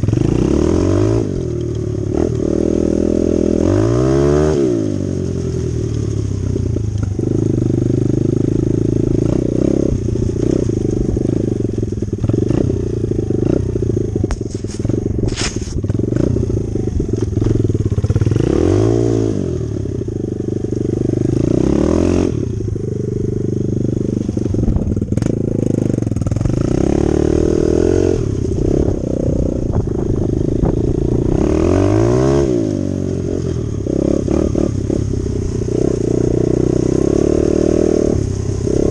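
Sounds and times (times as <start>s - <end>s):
dirt bike engine revving: 0.0s - 5.9s, 6.6s - 38.9s.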